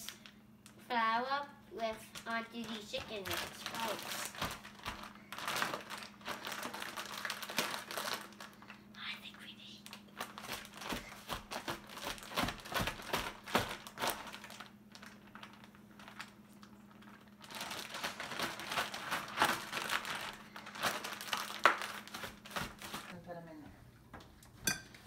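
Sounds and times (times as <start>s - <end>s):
plastic bag crinkling: 1.8s - 8.9s, 9.8s - 23.2s.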